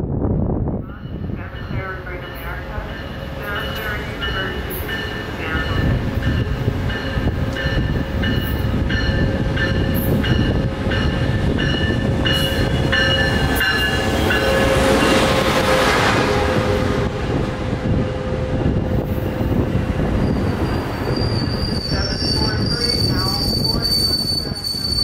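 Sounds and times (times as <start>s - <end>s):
train wheels rumbling on rail: 0.0s - 25.0s
train bell ringing: 0.9s - 15.5s, 19.1s - 25.0s
locomotive engine hum: 1.2s - 21.3s.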